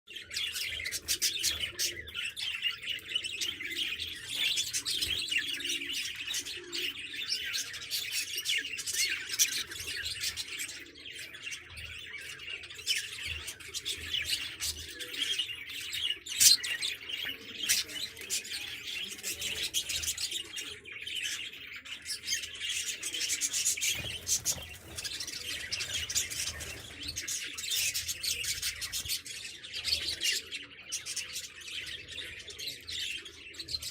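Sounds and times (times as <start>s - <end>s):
budgerigars chattering and chirping: 0.1s - 33.9s.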